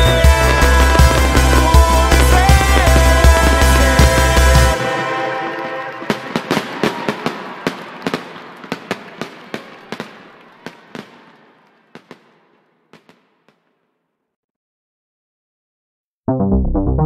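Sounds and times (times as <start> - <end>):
fireworks crackling and popping: 0.0 - 13.8.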